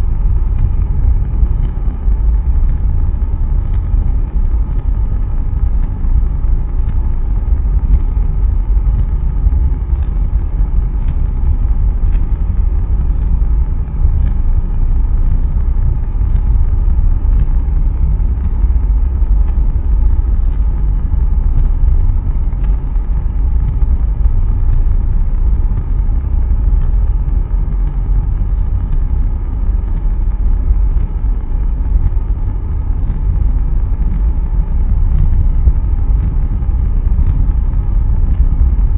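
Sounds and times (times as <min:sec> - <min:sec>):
rocket engine rumble: 0:00.0 - 0:38.9.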